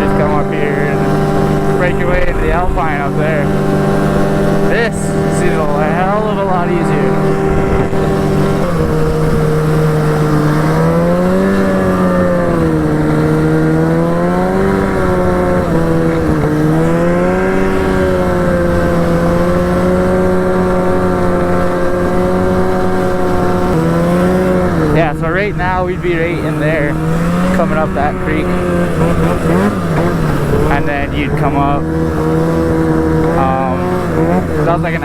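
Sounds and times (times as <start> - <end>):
snowmobile engine running: 0.0 - 35.0.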